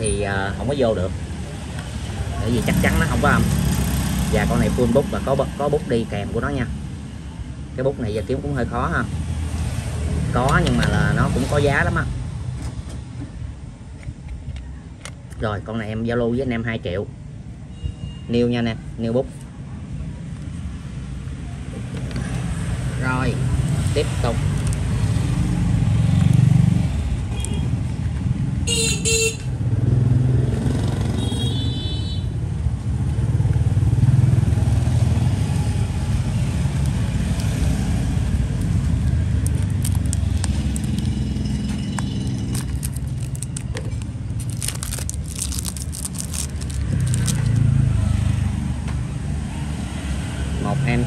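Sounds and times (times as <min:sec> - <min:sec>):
motorbike and car traffic: 0:00.0 - 0:51.0.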